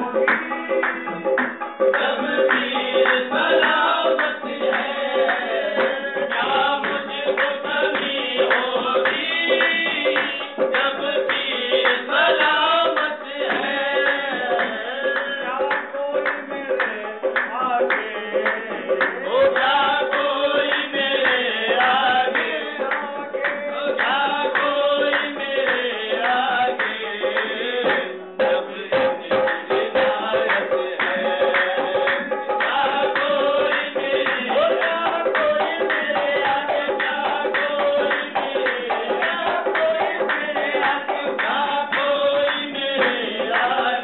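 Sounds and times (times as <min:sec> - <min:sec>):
hand-clapping: 0:00.0 - 0:28.2, 0:28.9 - 0:44.0
hand drum beat: 0:00.0 - 0:44.0
harmonium: 0:00.0 - 0:44.0
men singing: 0:00.0 - 0:44.0.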